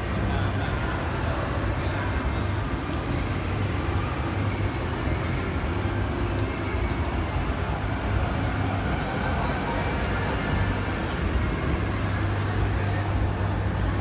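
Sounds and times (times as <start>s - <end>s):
indoor hall hum and din: 0.0s - 14.0s.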